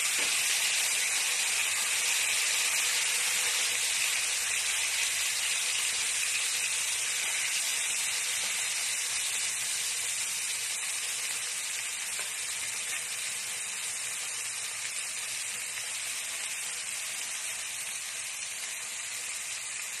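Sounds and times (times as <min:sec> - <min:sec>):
fish sizzling in hot oil: 0:00.0 - 0:20.0.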